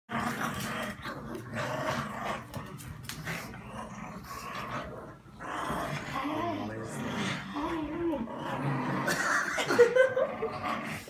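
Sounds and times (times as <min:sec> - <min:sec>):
dogs growling in play: 0:00.1 - 0:11.0.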